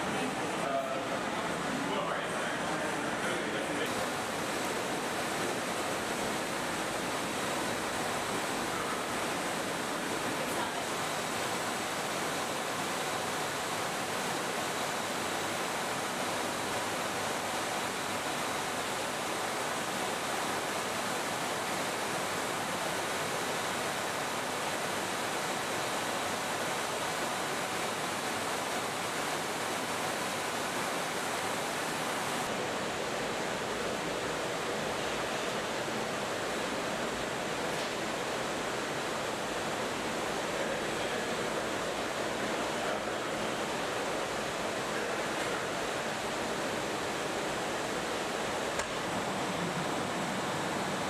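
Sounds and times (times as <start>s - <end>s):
steady rushing hiss: 0.0s - 51.0s.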